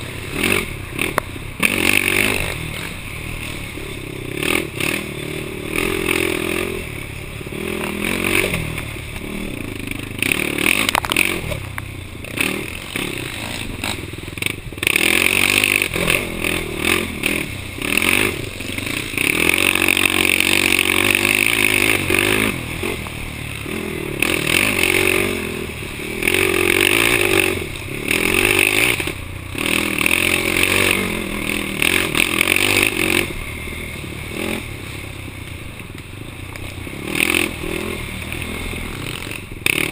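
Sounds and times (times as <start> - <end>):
quad engine revving: 0.0 - 35.5, 36.4 - 39.9
vehicle rattling over rough ground: 0.0 - 39.9
wind: 0.0 - 39.9.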